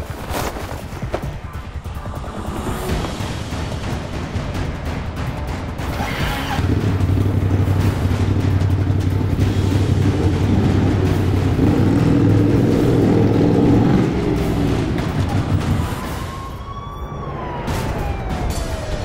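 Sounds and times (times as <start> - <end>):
vehicle engine running: 0.6 - 15.9.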